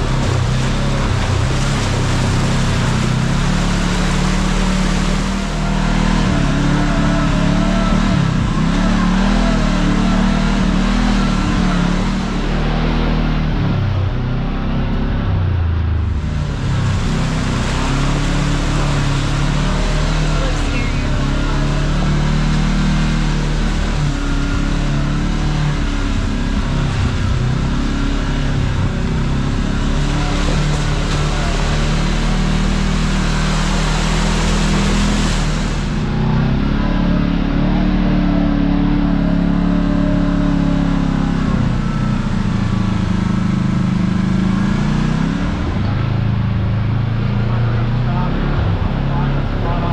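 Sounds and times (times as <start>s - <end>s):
off-road vehicle engine running: 0.0s - 49.9s
road and drivetrain noise: 0.0s - 49.9s.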